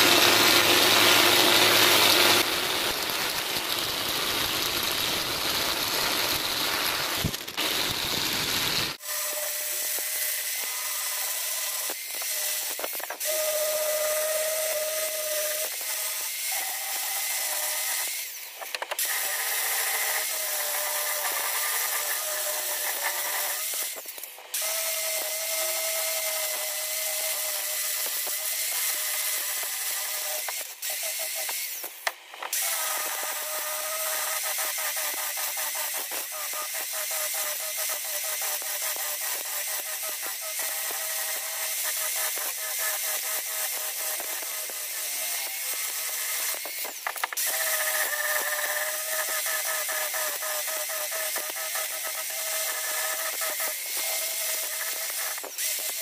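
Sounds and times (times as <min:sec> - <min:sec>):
angle grinder sanding wood: 0:00.0 - 0:56.0.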